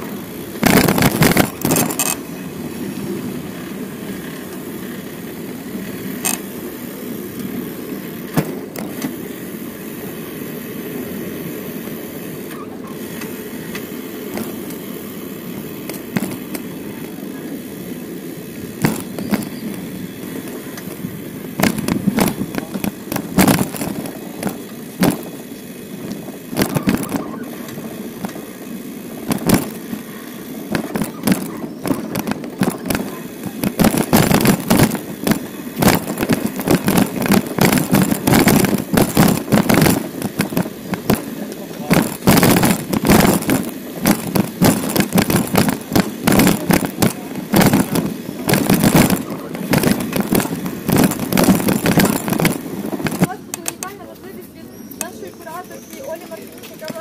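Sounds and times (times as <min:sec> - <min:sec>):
bike knocks and rattles: 0:00.0 - 0:02.4, 0:04.3 - 0:09.5, 0:11.6 - 0:17.7, 0:18.4 - 0:54.2, 0:55.0 - 0:57.0
bicycle rolling noise: 0:00.0 - 0:57.0.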